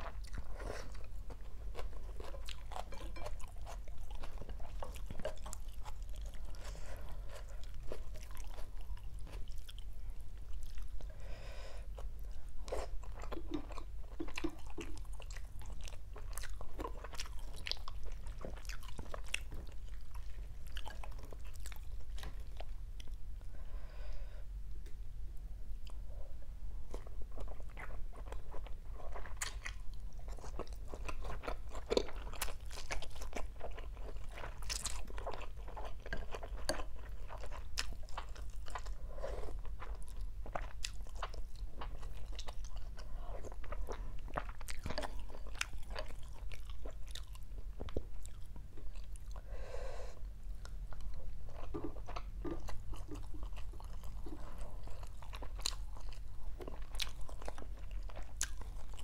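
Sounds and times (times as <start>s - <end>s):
person chewing crunchy food: 0.0s - 23.7s, 26.8s - 59.0s.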